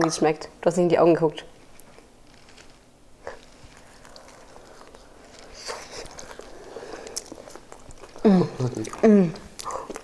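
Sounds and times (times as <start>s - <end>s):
people chewing pizza: 1.7s - 10.0s.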